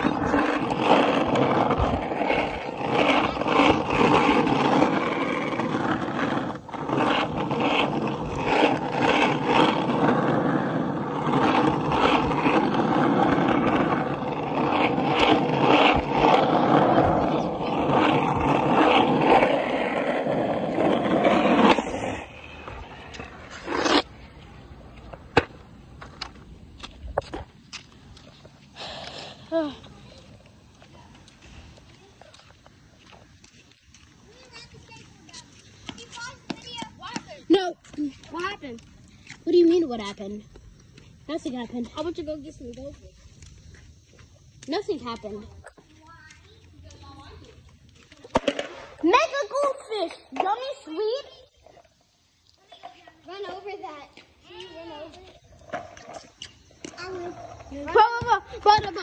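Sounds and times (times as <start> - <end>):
skateboard wheels rolling on asphalt: 0.0 - 59.0.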